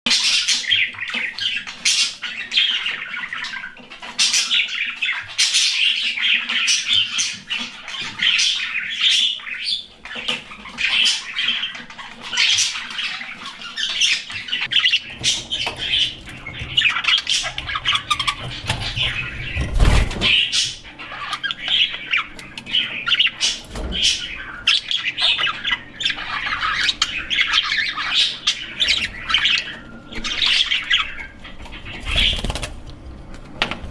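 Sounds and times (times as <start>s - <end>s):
budgerigars chattering: 0.1s - 32.8s.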